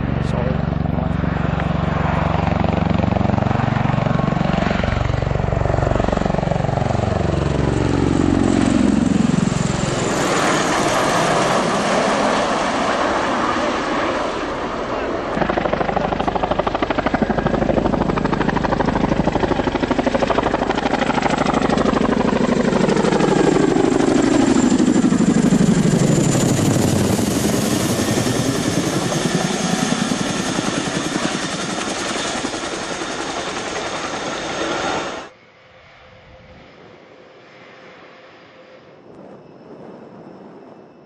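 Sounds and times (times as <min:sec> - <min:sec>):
helicopter rotor chop: 0:00.0 - 0:35.3
aircraft engine hum: 0:00.0 - 0:41.0
turbine whine: 0:00.0 - 0:41.0.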